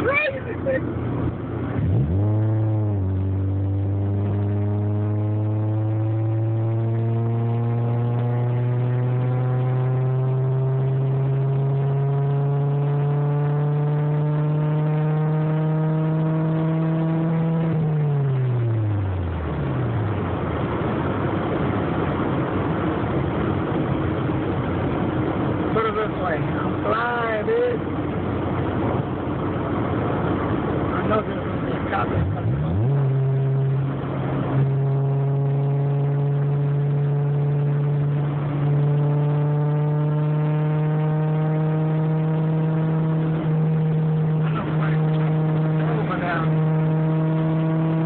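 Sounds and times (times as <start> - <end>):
car engine accelerating: 0.0 - 48.0
road and wind noise: 0.0 - 48.0.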